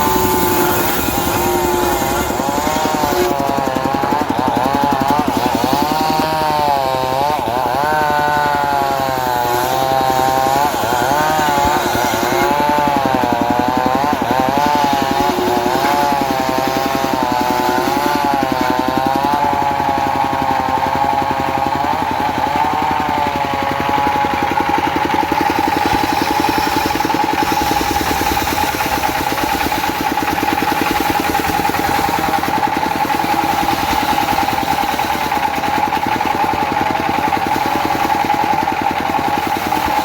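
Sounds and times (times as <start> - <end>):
engine chugging: 0.0 - 40.0
saw blade whine: 0.0 - 40.0.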